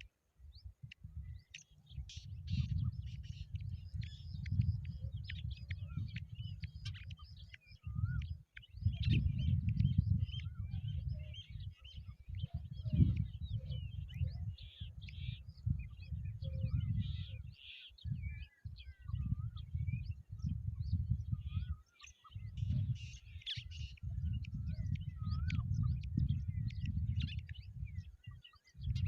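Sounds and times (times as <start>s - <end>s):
small birds chirping: 0.0s - 29.0s
wind rumble on microphone: 0.0s - 29.0s.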